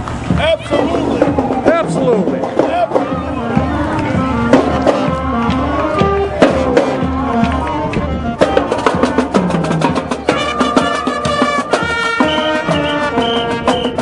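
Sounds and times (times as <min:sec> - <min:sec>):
music with percussion: 0:00.2 - 0:14.0.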